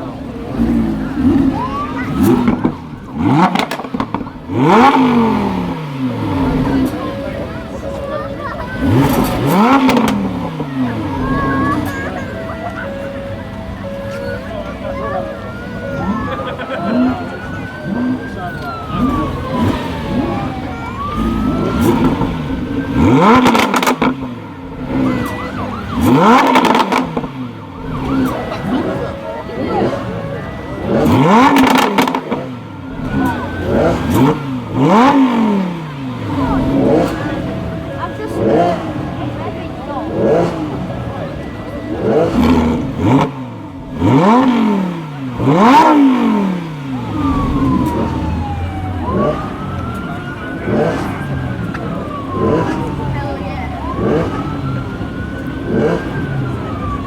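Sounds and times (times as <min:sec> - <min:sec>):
car engine idling: 0:00.0 - 0:57.0
engine rev blip: 0:00.0 - 0:57.0
siren wailing: 0:00.0 - 0:57.0
exhaust crackles and pops: 0:00.2 - 0:16.4, 0:17.0 - 0:53.2.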